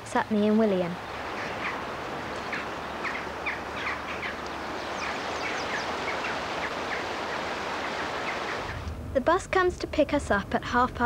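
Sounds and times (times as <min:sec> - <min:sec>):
small birds chirping: 0:00.0 - 0:08.9
steady rushing outdoor noise: 0:00.0 - 0:10.4.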